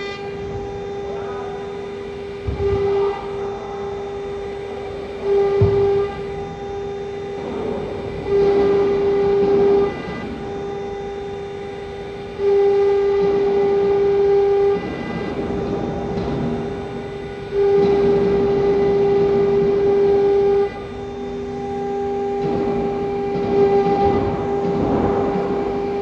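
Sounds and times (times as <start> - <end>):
router spindle whine: 0.0 - 26.0.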